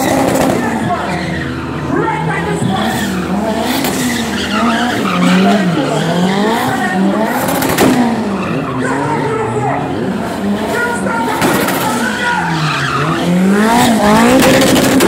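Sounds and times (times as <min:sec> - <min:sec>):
car engine revving: 0:00.0 - 0:15.0
tyres skidding and squealing: 0:00.0 - 0:15.0.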